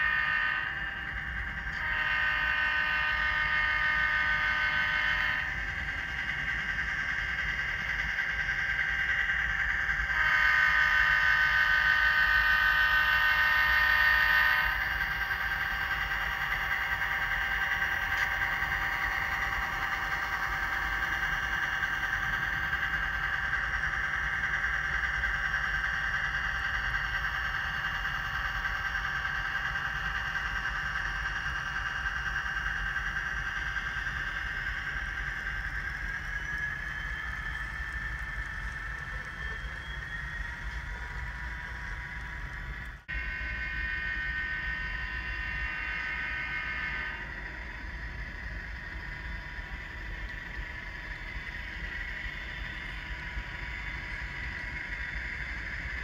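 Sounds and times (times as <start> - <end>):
high whine: 0.0 - 56.0
model locomotive diesel engine sound: 0.0 - 56.0.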